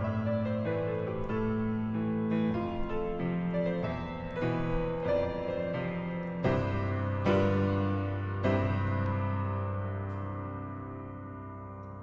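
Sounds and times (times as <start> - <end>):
slow solo piano ballad: 0.0 - 12.0.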